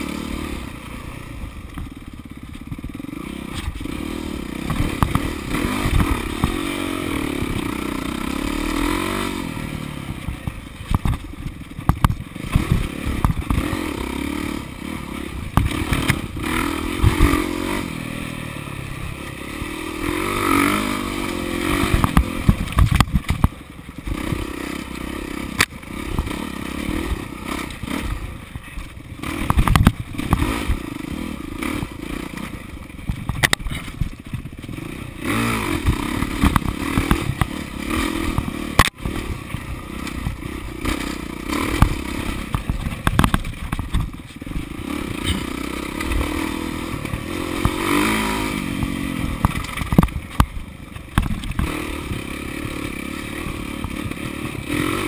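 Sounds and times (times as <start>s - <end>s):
dirt bike engine revving: 0.0s - 55.0s
knocks and rattles over rough ground: 0.1s - 55.0s.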